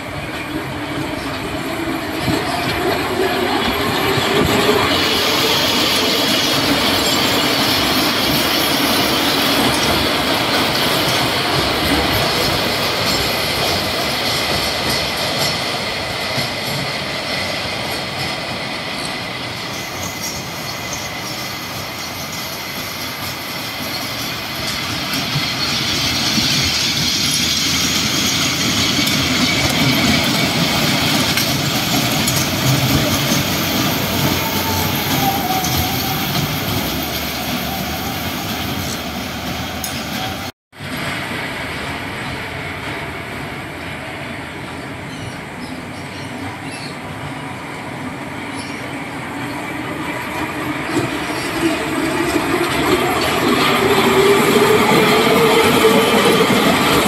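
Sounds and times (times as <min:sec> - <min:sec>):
roller coaster wheels rattling: 0:00.0 - 0:43.9, 0:49.4 - 0:57.0.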